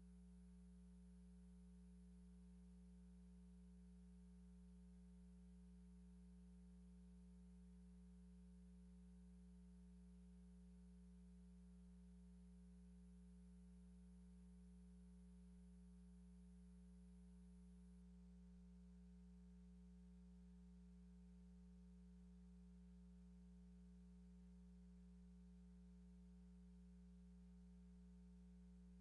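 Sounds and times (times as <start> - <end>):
faint electrical hum: 0.0 - 29.0.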